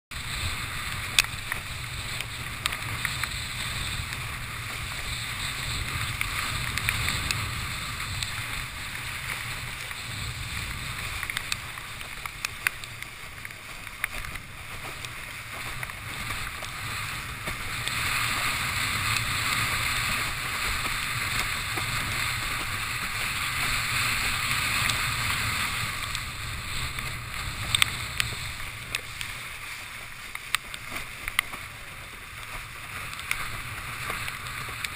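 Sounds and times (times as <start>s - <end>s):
board slapping on water: 0.1s - 34.9s
rush of water and wind: 0.1s - 34.9s.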